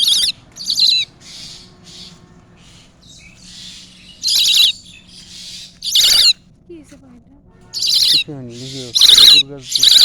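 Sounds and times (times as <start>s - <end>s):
small bird harsh warbling calls: 0.0s - 6.4s, 7.7s - 10.0s.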